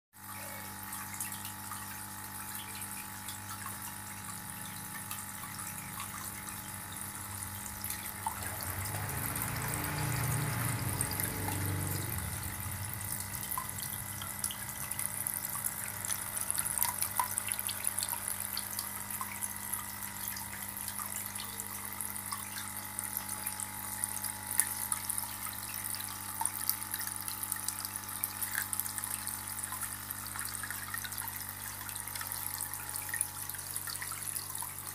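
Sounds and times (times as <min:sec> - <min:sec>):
air bubbles bubbling in water: 0:01.5 - 0:34.9.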